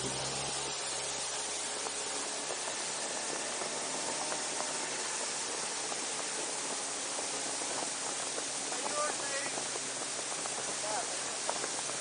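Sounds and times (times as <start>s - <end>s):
wind hissing over microphone: 0.0s - 12.0s.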